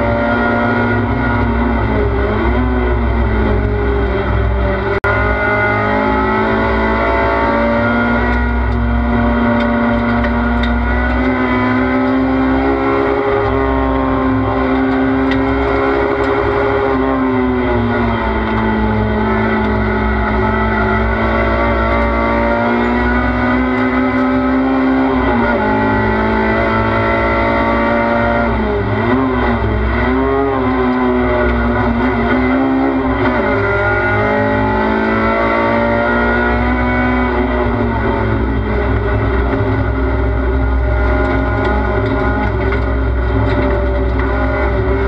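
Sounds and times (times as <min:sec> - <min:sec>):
race car engine at high revs: 0:00.0 - 0:45.0.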